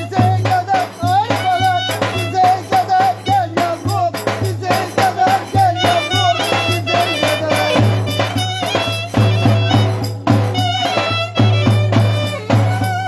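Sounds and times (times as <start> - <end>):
folk dance music by band: 0.0 - 13.0.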